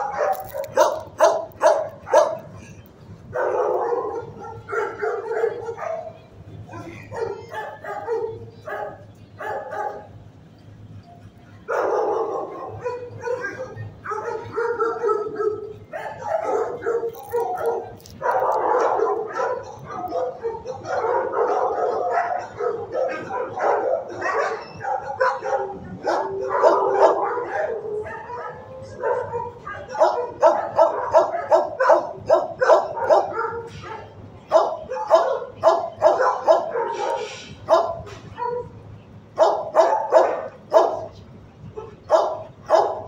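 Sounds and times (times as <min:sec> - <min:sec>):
dogs barking: 0:00.0 - 0:10.2, 0:11.7 - 0:43.0.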